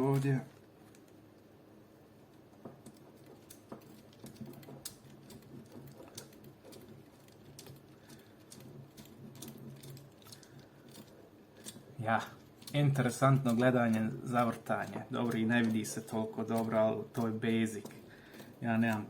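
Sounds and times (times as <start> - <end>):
screwdriver clicking and scraping: 2.7 - 19.0.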